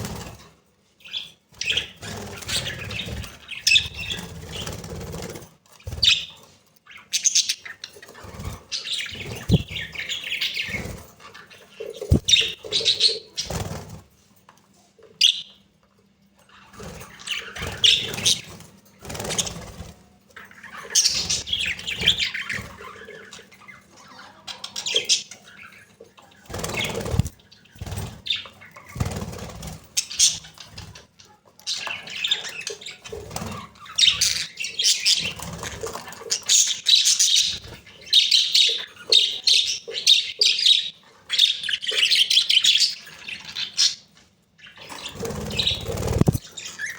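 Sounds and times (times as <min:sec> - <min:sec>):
budgerigars chattering and warbling: 0:01.0 - 0:14.0, 0:16.5 - 0:46.9.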